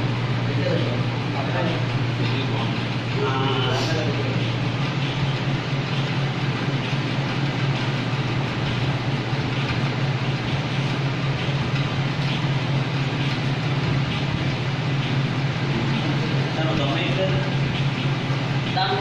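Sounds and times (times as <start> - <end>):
electric fan blowing: 0.0 - 19.0.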